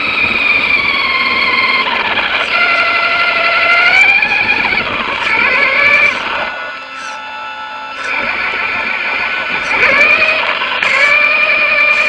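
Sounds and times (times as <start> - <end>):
rc truck motor whine: 0.0 - 12.0.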